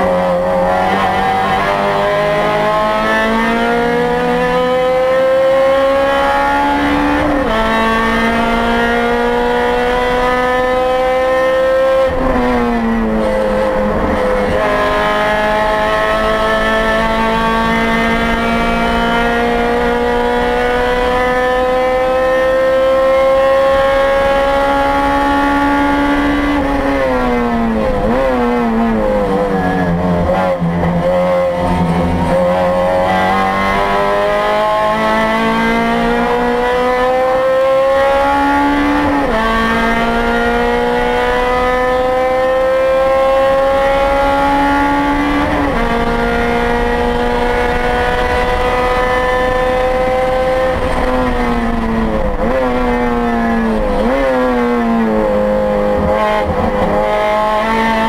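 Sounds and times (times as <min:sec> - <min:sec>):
car engine revving with gear shifts: 0:00.0 - 0:58.0.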